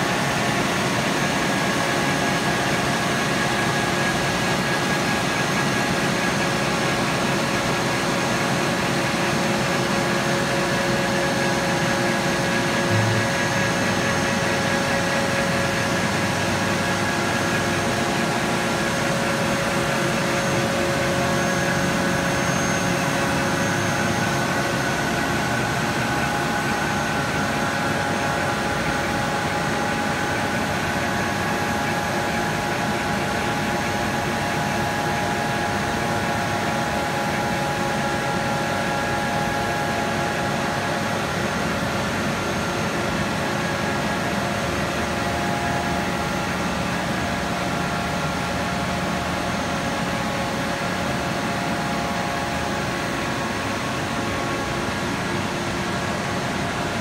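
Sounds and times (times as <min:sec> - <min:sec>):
industrial machinery hum: 0:00.0 - 0:57.0.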